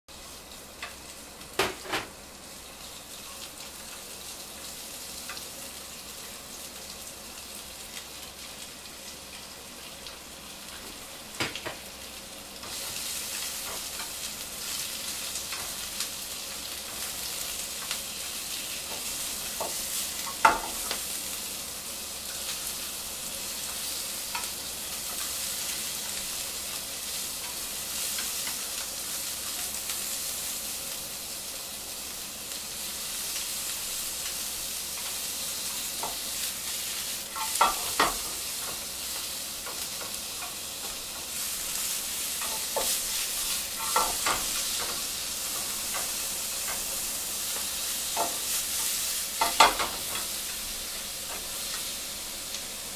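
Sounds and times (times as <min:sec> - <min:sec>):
food sizzling in a frying pan: 0:00.1 - 0:52.9.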